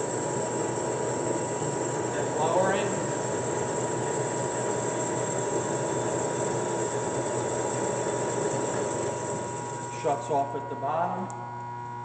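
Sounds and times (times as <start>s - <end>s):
band saw running with whine: 0.0s - 11.6s.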